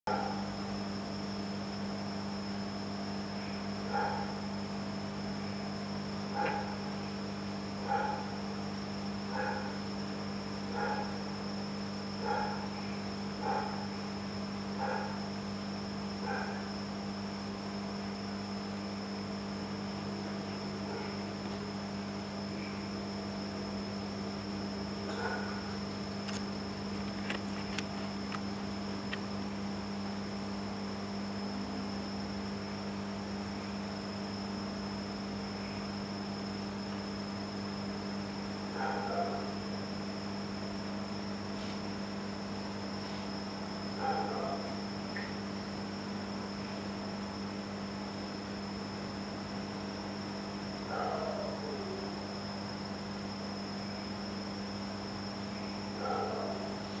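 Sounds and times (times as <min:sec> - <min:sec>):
aquarium equipment electrical hum: 0:00.1 - 0:57.0
faint high whine: 0:00.1 - 0:57.0.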